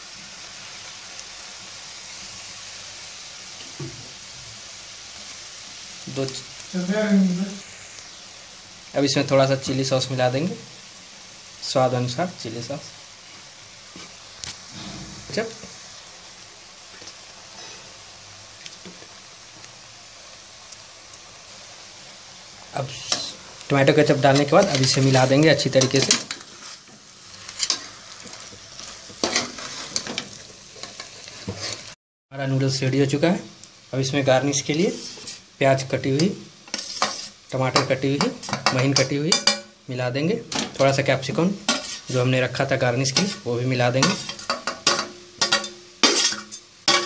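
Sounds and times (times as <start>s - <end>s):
noodles sizzling in a pot: 0.0s - 47.0s.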